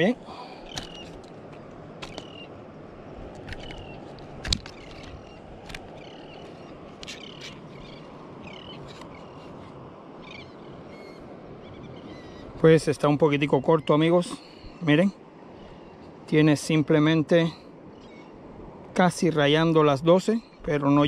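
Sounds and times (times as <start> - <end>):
birds chirping: 0.0 - 21.0
steady outdoor hiss: 0.0 - 21.0.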